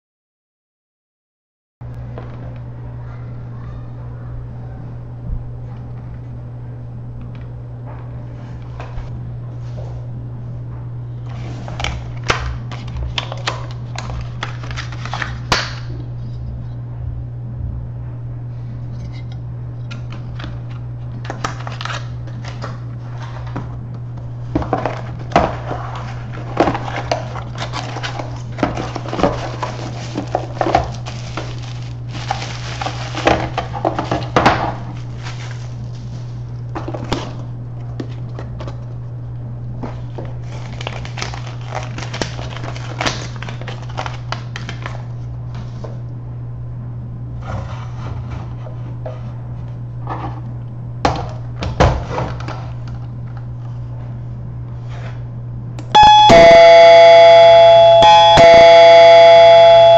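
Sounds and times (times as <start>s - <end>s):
steady low hum: 1.8s - 59.9s.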